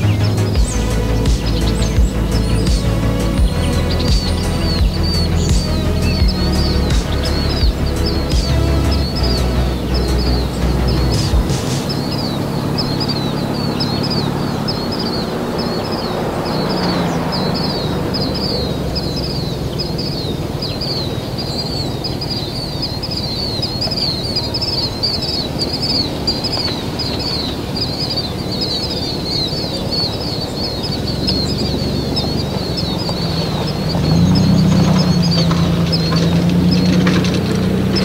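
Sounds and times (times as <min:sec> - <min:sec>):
birds chirping rapidly: 0:00.0 - 0:38.0
low rushing background noise: 0:00.0 - 0:38.0.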